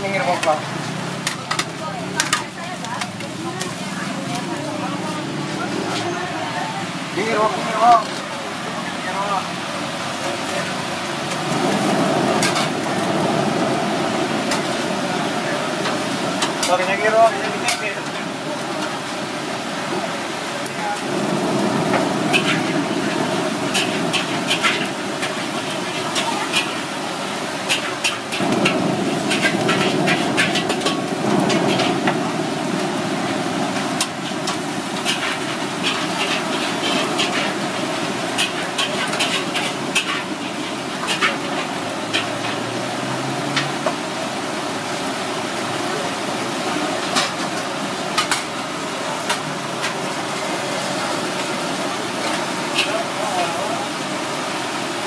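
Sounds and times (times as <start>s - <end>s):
charcoal fire crackling and popping: 0.0s - 55.0s
crabs sizzling: 0.0s - 55.0s.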